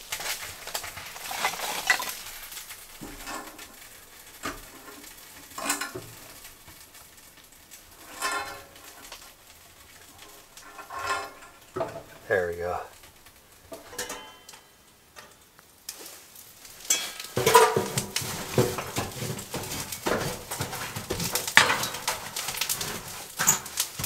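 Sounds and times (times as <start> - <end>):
wood stove crackling: 0.0 - 24.0.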